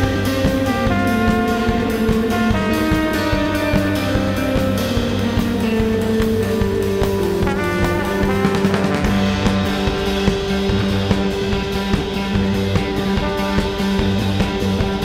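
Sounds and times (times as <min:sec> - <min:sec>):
drum kit: 0:00.0 - 0:15.0
electric guitar: 0:00.0 - 0:15.0
low brass melody: 0:00.0 - 0:15.0.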